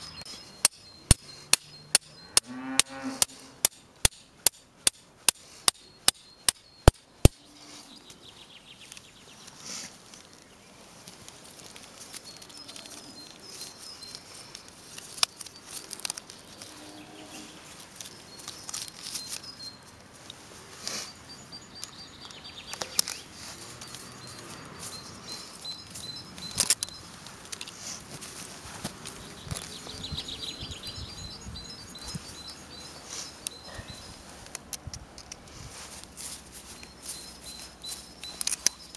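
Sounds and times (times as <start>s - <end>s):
birds chirping: 0.0s - 4.0s, 5.4s - 34.5s, 36.5s - 38.9s
handling rustles: 0.0s - 30.1s, 31.8s - 38.9s.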